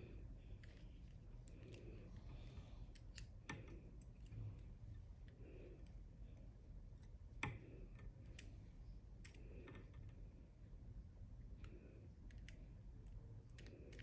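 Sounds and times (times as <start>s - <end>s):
small clicks of handling thread: 0.5s - 8.6s, 9.2s - 10.3s, 11.6s - 14.0s.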